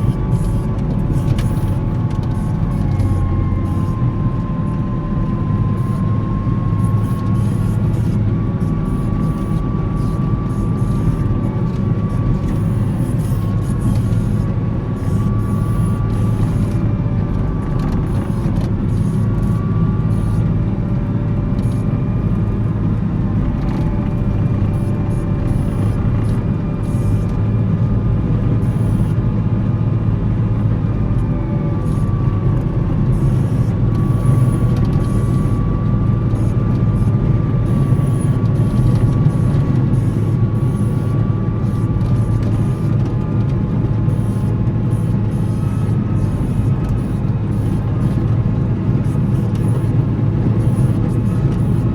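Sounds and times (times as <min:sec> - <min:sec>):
wheel loader diesel engine: 0:00.0 - 0:51.9.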